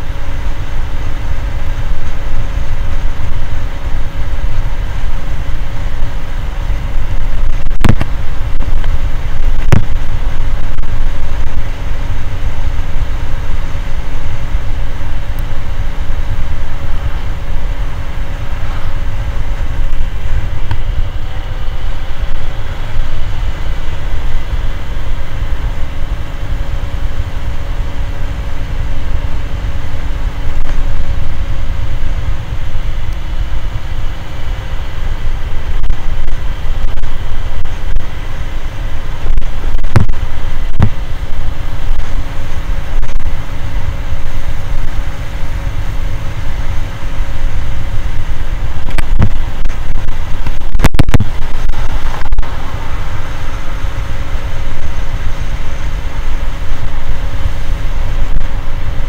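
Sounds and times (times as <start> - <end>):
faint steady whine: 0.0 - 59.0
scooter engine running: 0.0 - 59.0
wind rumble on microphone: 0.0 - 59.0.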